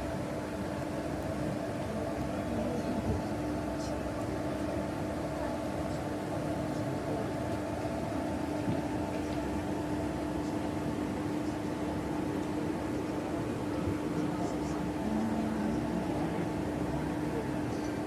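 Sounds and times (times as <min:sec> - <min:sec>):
locomotive engine droning: 0:00.0 - 0:18.0.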